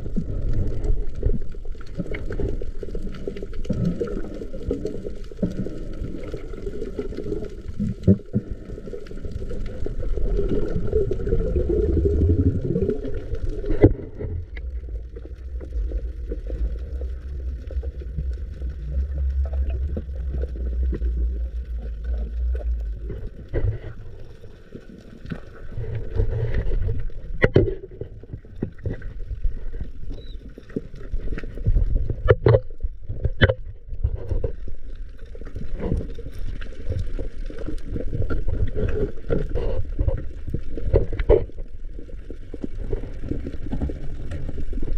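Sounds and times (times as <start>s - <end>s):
water bubbling: 0.0s - 44.9s
water rushing and sloshing: 0.0s - 44.9s.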